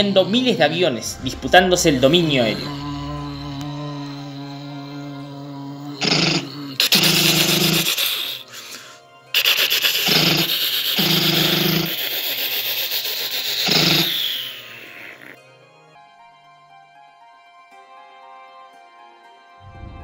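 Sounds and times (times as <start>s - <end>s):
music: 0.0s - 20.0s.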